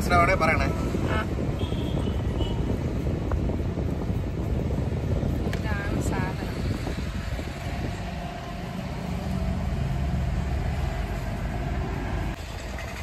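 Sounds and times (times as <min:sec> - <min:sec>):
car engine rumble: 0:00.0 - 0:13.0
road noise inside car: 0:00.0 - 0:13.0.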